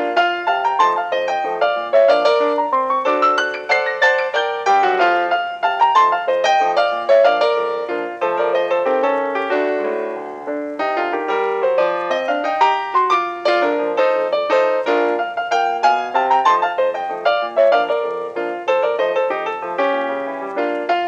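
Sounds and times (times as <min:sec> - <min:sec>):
ragtime piano music: 0:00.0 - 0:21.0.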